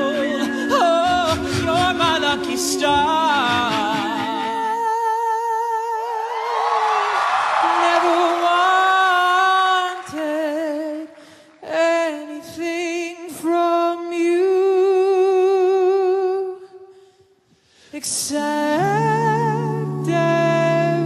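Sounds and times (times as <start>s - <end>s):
man singing with vibrato: 0.0s - 6.5s, 7.6s - 16.8s, 17.9s - 21.0s.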